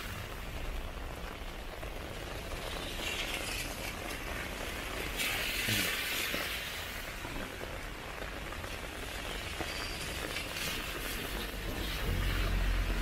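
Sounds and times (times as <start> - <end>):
rain falling on street: 0.0 - 13.0.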